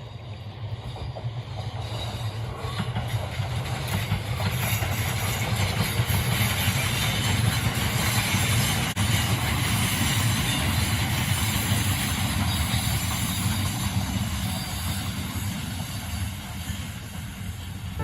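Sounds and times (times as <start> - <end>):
train passing rumble: 0.0 - 18.0.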